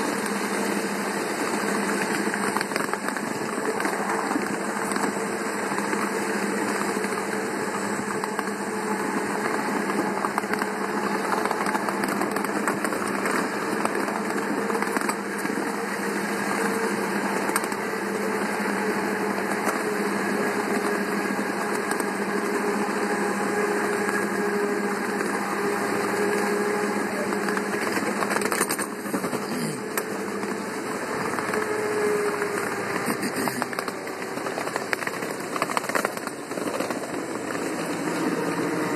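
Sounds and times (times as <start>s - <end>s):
miniature train engine drone: 0.0s - 38.9s
small wheels clattering on rails: 1.5s - 15.9s, 16.6s - 38.9s.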